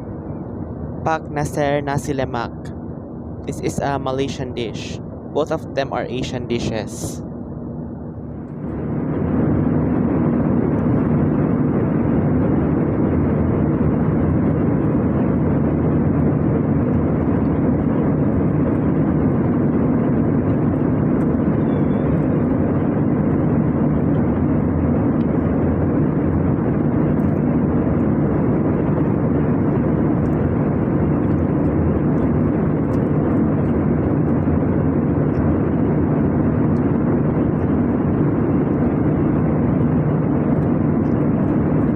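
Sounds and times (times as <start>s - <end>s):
aircraft cabin air rush: 0.0s - 41.9s
jet engines droning: 0.0s - 41.9s
low hum: 0.0s - 41.9s.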